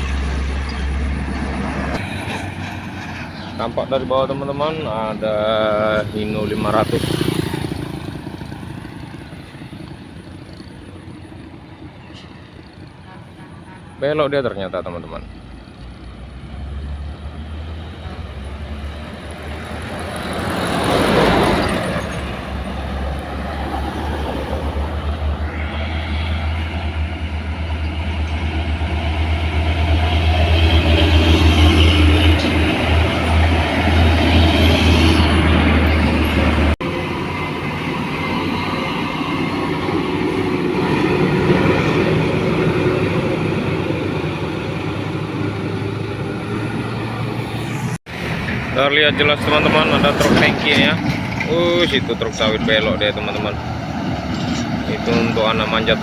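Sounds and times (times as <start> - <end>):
heavy truck engines labouring: 0.0 - 56.0.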